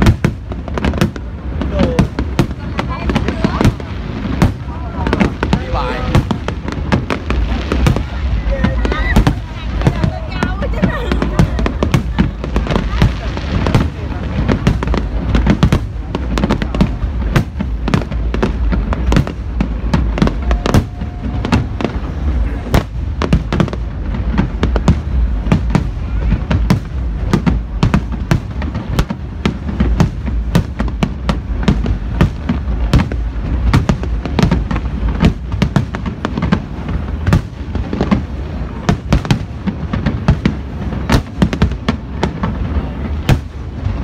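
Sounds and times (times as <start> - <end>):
fireworks bangs and booms: 0.0 - 44.0
steady low rumble: 0.0 - 44.0.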